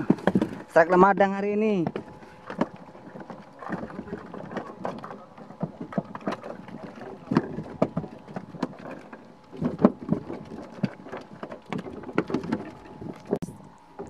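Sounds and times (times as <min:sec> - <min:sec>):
knocks and thumps on boat deck: 0:00.0 - 0:13.4
faint engine hum: 0:01.6 - 0:14.0.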